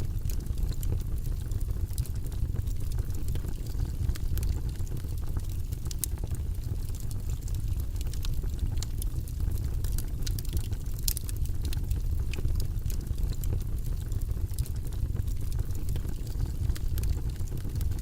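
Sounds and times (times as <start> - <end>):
fire crackles and pops: 0.0 - 18.0
fireplace flames rumbling: 0.0 - 18.0.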